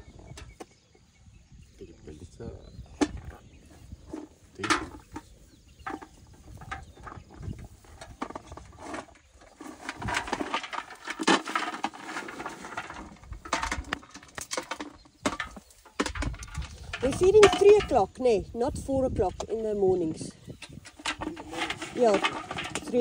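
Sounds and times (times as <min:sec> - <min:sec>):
trunk rummaging in metal bucket: 0:02.6 - 0:23.0.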